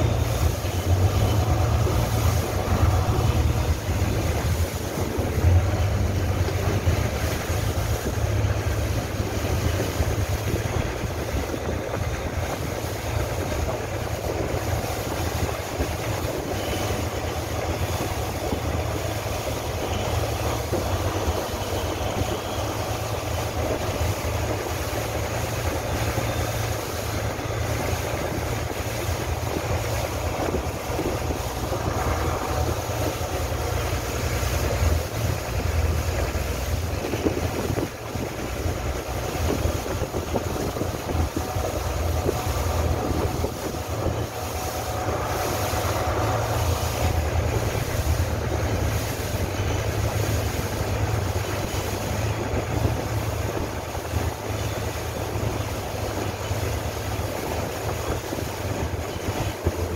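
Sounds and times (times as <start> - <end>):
boat engine humming: 0.0 - 59.9
water: 0.0 - 59.9
wind: 0.0 - 59.9.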